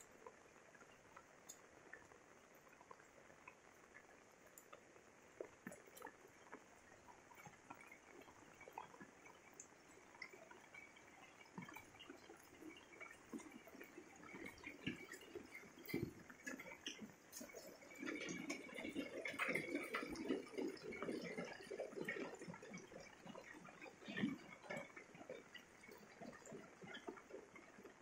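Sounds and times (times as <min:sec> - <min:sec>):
light rain pattering: 0:00.0 - 0:28.0.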